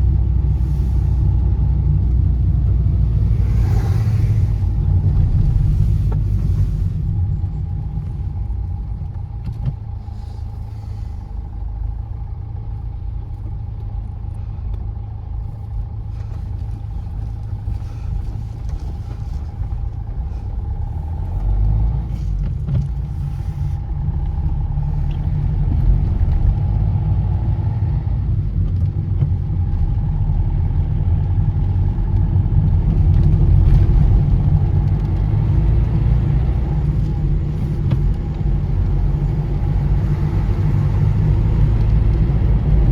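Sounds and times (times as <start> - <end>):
car driving on road: 0.0 - 42.9.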